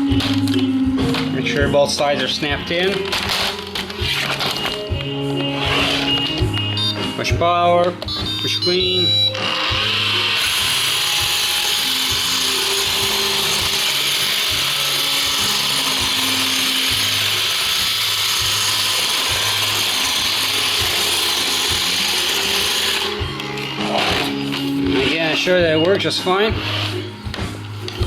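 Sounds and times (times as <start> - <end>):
robot vacuum whirring: 2.2 - 7.1, 8.0 - 28.0.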